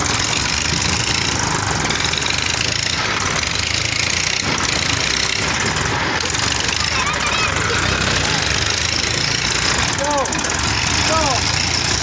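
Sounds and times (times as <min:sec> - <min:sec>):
tractor diesel engine knocking: 0:00.0 - 0:12.0.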